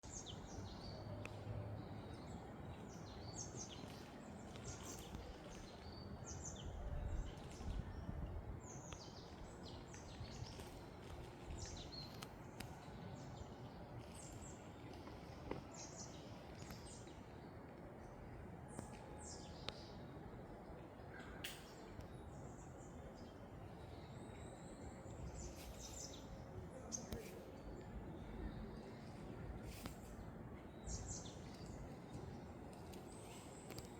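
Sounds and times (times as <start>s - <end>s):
small birds chirping: 0.0s - 20.1s, 21.0s - 33.9s
faint background noise: 0.0s - 33.9s.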